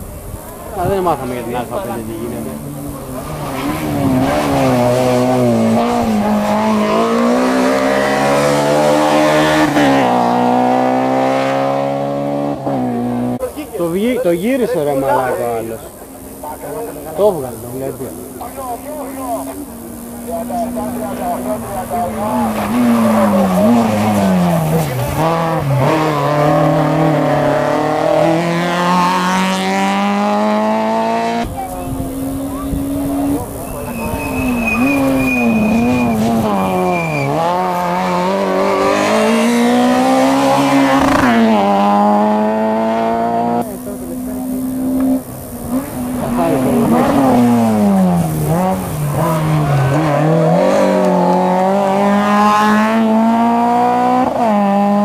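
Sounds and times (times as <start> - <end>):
rally car engine accelerating: 0.4 - 13.6, 16.7 - 55.0.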